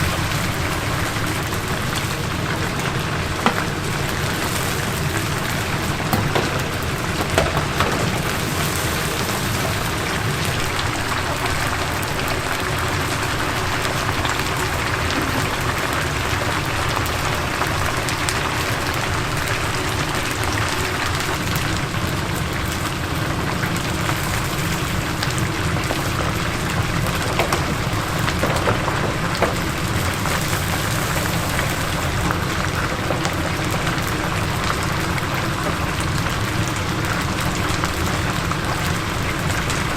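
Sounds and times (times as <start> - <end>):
food deep-frying in oil: 0.0 - 39.9
oil popping: 0.4 - 17.1, 23.1 - 39.9.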